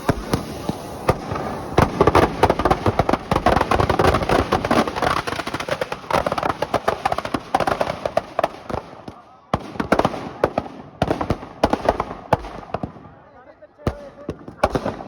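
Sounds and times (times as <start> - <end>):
rapid crackling and popping: 0.0 - 15.0.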